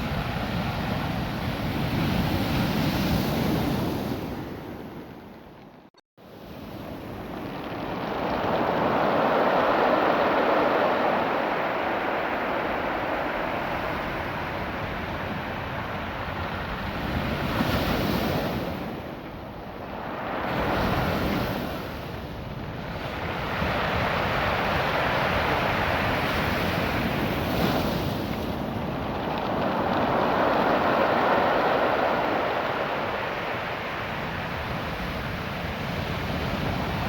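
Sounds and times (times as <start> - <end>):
surf washing over rocks: 6.3 - 37.0.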